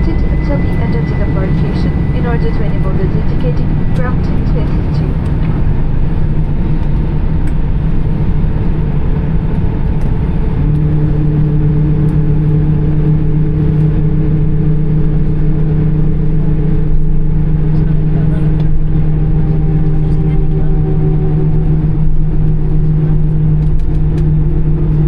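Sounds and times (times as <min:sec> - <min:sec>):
jet engines rumbling in cabin: 0:00.0 - 0:25.0
low hum with overtones: 0:00.0 - 0:25.0.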